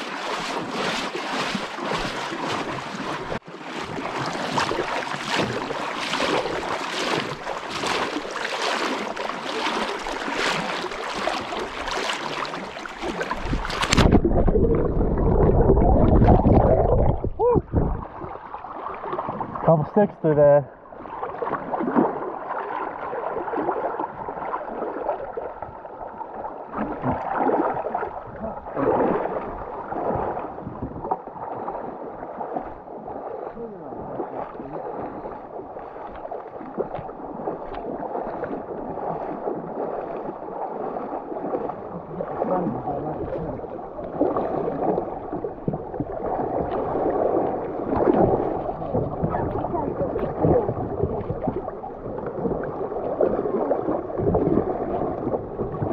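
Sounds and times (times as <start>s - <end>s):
water splashing and gurgling: 0.0s - 55.9s.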